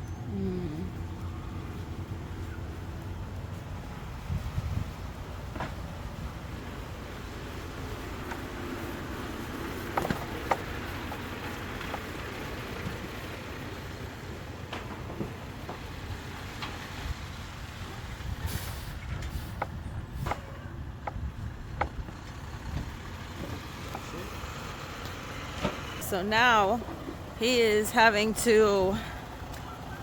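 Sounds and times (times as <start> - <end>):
truck engine running: 0.3 - 30.0.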